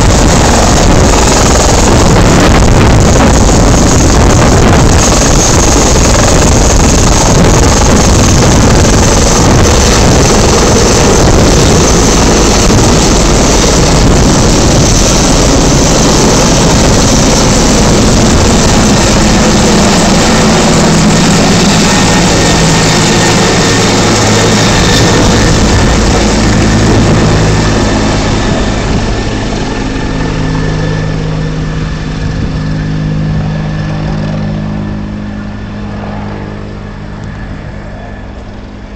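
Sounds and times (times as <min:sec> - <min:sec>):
helicopter rotor and turbine whine: 0:00.0 - 0:38.9.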